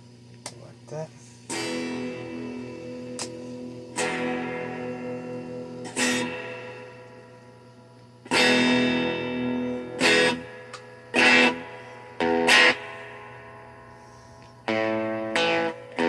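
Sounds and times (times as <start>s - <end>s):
electric guitar chords ringing: 1.5s - 16.0s.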